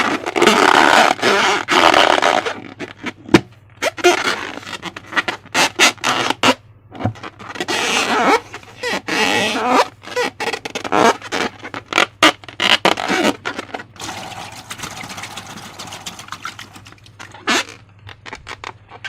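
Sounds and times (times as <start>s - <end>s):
slime squishing and scraping: 0.0s - 19.0s.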